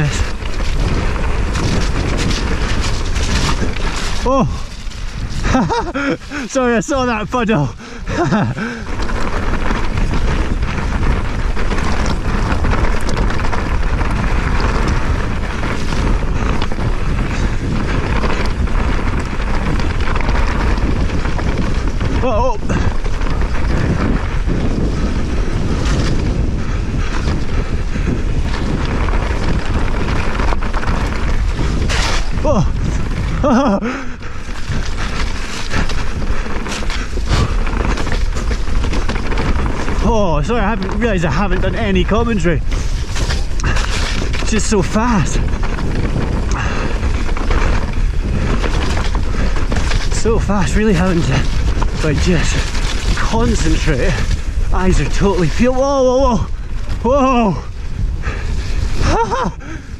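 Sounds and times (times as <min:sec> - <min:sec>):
bike tyres rumbling on stony track: 0:00.0 - 0:59.9
wind buffeting microphone: 0:00.0 - 0:59.9.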